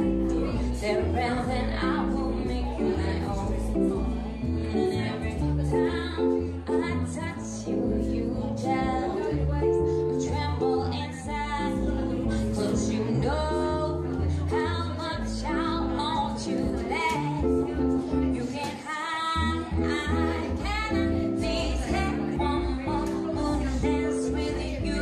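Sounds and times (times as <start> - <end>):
plucked upright double bass: 0.0 - 18.6, 19.2 - 25.0
archtop guitar: 0.0 - 25.0
woman singing into a microphone: 0.0 - 25.0.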